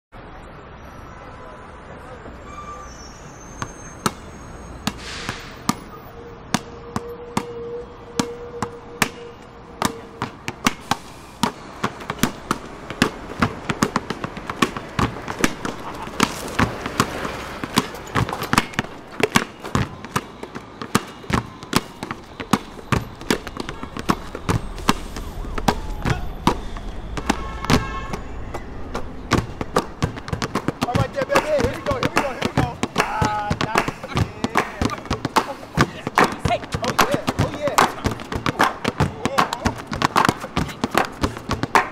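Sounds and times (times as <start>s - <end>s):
basketballs dribbling on hard ground: 3.5s - 41.9s.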